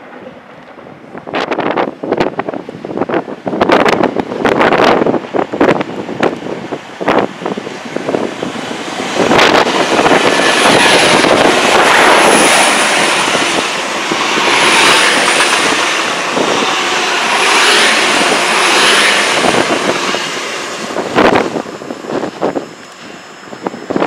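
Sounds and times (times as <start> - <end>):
train wheels rushing on rail: 0.0 - 24.0.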